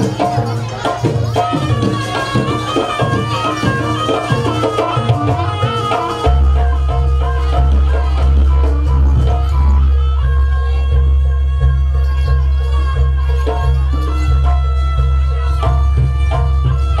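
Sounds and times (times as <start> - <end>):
traditional percussion: 0.0 - 17.0.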